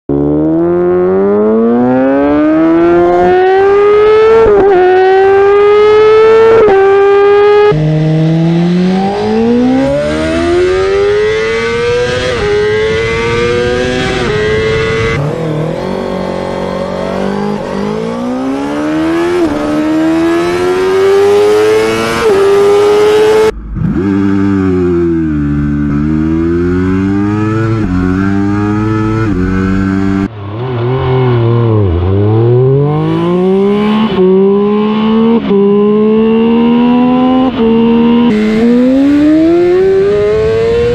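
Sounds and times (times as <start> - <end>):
motorcycle engines revving: 0.1 - 40.9.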